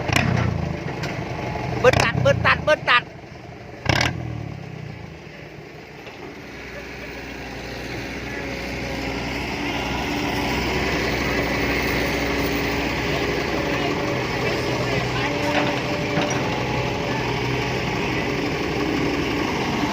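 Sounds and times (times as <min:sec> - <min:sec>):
engine with loud exhaust running: 0:00.0 - 0:19.9.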